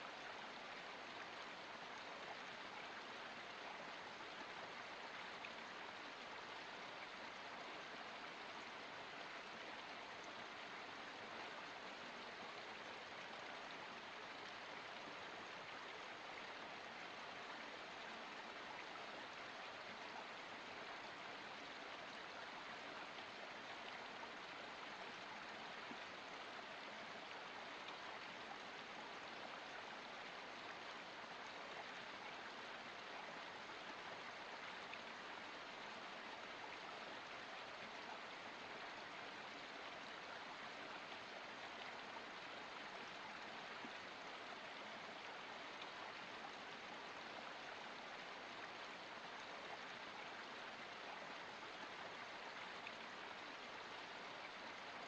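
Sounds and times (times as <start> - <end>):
creek trickling over rocks: 0.0 - 55.0.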